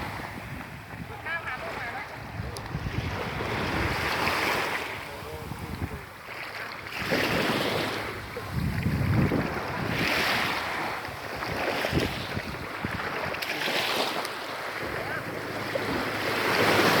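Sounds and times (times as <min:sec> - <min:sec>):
sea waves washing onto beach: 0:00.0 - 0:17.0
wind buffeting microphone: 0:00.0 - 0:17.0.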